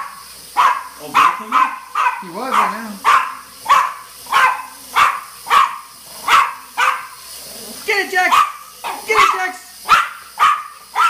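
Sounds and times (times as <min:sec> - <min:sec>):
small dog barking: 0:00.0 - 0:07.2, 0:08.3 - 0:11.0.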